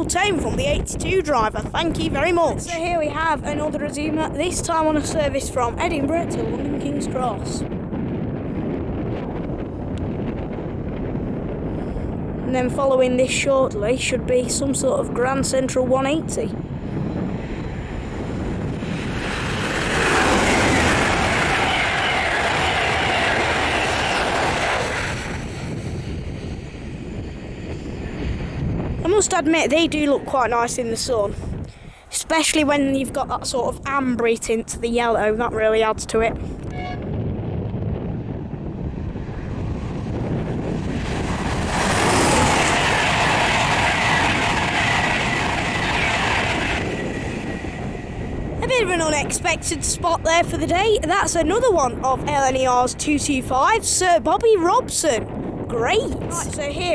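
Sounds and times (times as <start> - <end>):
low rumble: 0.0 - 31.7, 36.2 - 53.9
train passing at speed: 0.0 - 56.9
wind buffeting microphone: 0.0 - 56.9.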